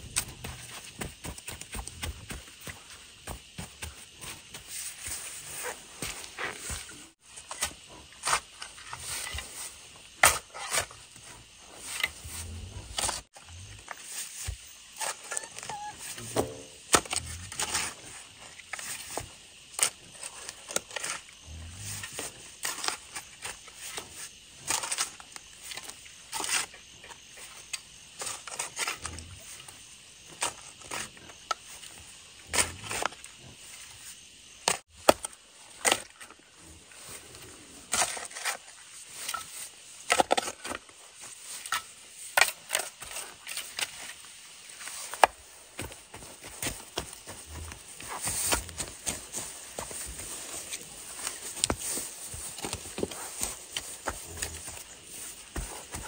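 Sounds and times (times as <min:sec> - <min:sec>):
hoe chopping and scraping dirt: 0:00.0 - 0:36.5, 0:37.1 - 0:56.0.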